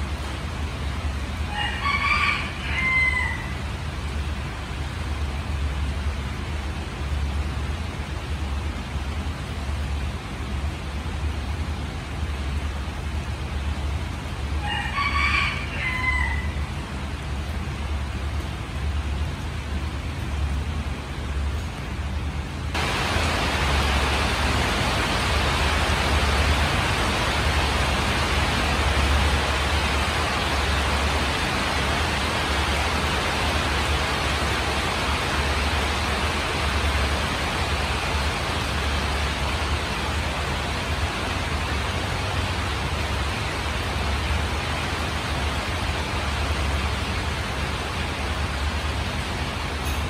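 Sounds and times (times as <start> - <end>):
rain falling on leaves: 0.0 - 50.0.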